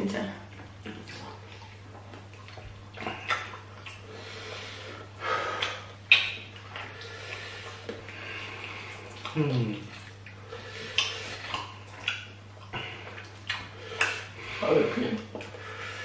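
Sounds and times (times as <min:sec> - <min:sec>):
faint low hum: 0:00.0 - 0:16.0
wet smacking eating sounds: 0:00.0 - 0:16.0.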